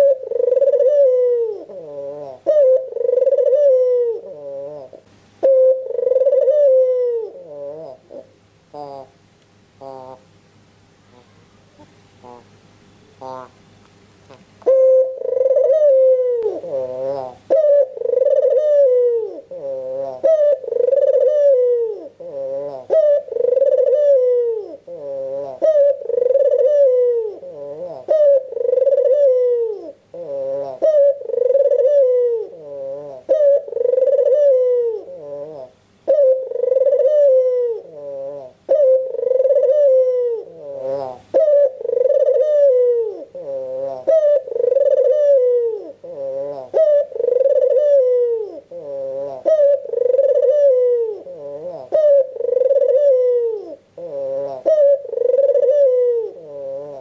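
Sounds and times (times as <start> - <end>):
dove cooing: 0.0 - 9.2, 9.8 - 10.3, 11.1 - 12.6, 13.2 - 13.6, 14.3 - 57.0.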